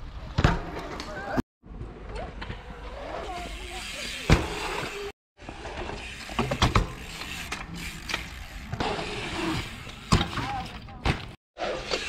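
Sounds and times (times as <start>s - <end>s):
bike tyres rolling on concrete: 0.0s - 12.0s.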